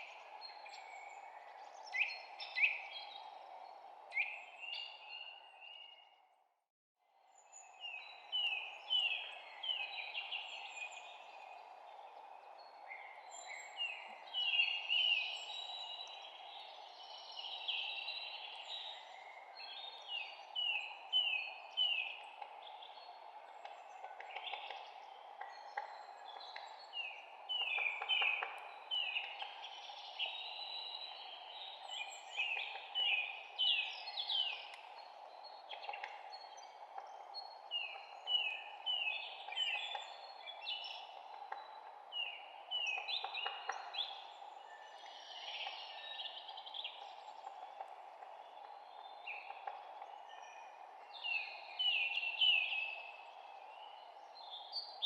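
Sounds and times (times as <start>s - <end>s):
songbirds chirping and singing: 7.3s - 55.0s
steady background hiss: 8.3s - 55.0s.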